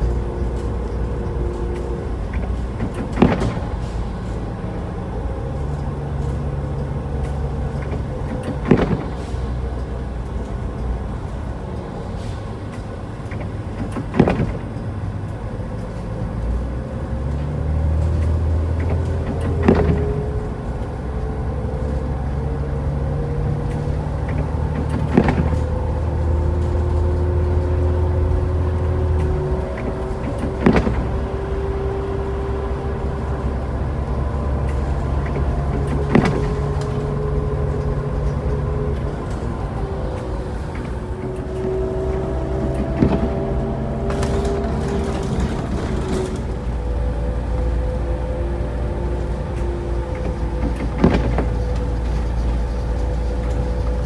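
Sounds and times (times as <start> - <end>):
car engine and road hum: 0.0 - 54.0.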